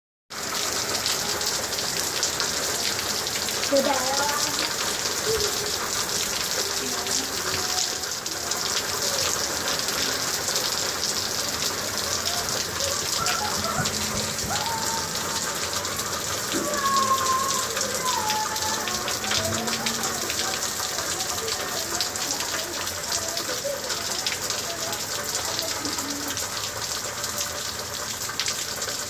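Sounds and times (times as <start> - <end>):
rain on lawn and concrete: 0.3 - 29.0.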